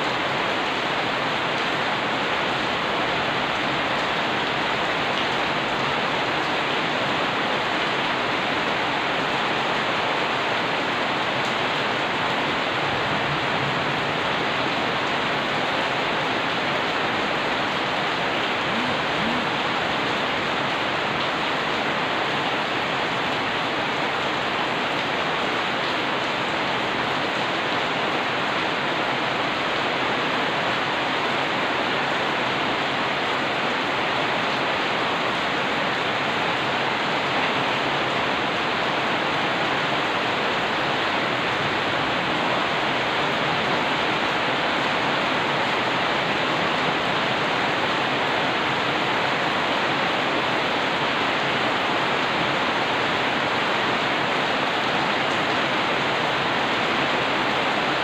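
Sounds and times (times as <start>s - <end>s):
heavy rain on street: 0.0s - 58.0s.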